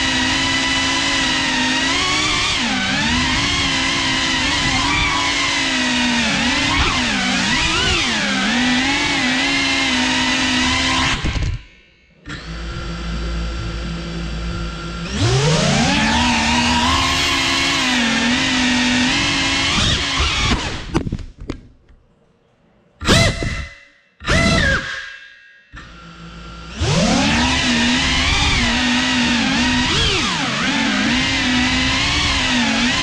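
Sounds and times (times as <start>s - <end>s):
drone propellers buzzing: 0.0s - 20.9s, 25.7s - 33.0s.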